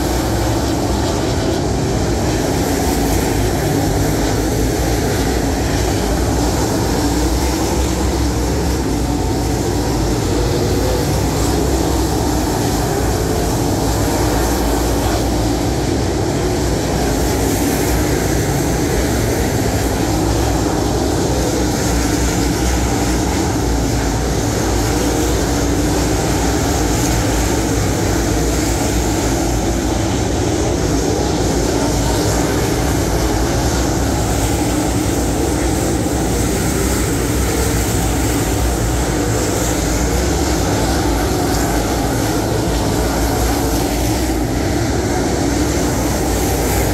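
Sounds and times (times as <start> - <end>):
race car engines roaring: 0.0 - 46.9.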